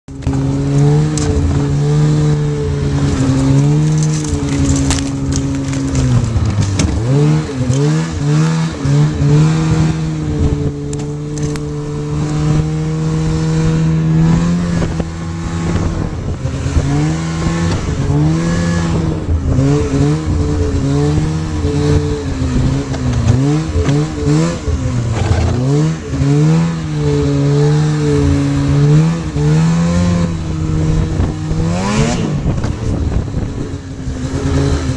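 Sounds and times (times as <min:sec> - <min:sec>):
snowmobile engine revving: 0:00.1 - 0:34.9.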